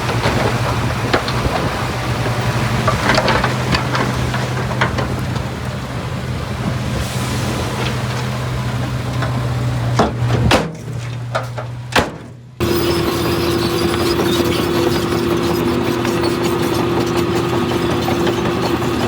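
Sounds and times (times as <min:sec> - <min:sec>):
engine with higher steady hum: 0:00.0 - 0:19.0
heavy machine engine running: 0:00.0 - 0:19.0.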